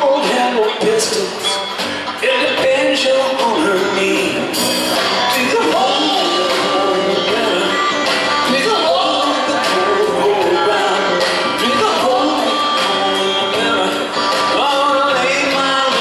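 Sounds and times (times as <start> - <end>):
live band playing: 0.0 - 16.0
man singing: 0.0 - 16.0.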